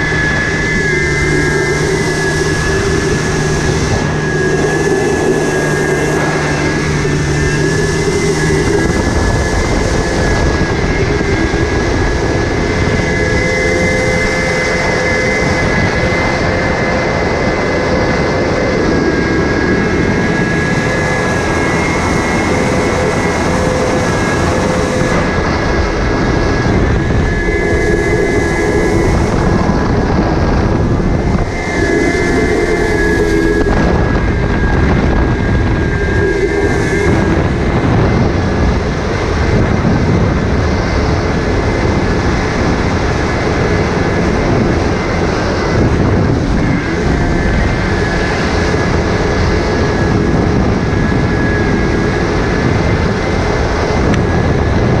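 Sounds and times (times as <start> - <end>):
jet ski engine running: 0.0 - 55.0.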